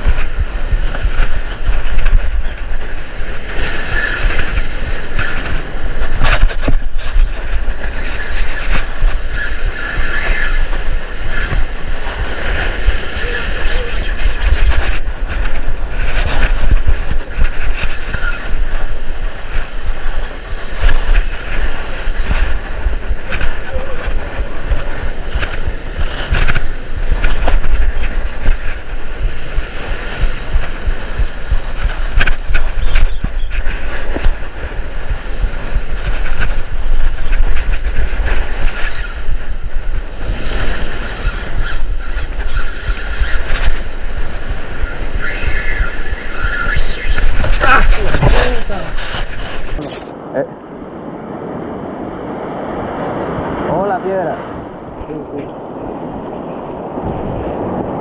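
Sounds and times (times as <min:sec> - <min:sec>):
surf breaking against rocks: 0:00.0 - 0:50.2
wind buffeting microphone: 0:00.0 - 0:58.0.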